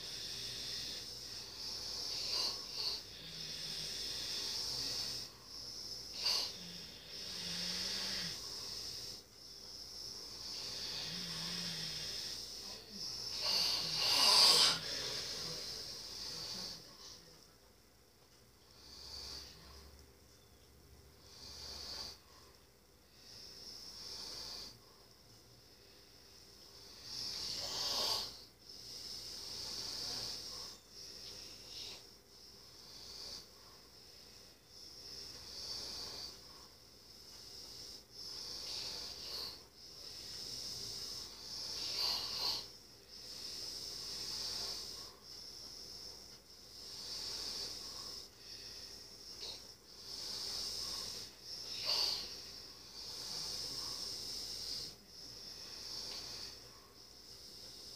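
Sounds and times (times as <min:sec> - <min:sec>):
sleeping person breathing: 0:00.0 - 0:17.5, 0:18.6 - 0:20.0, 0:21.2 - 0:57.9.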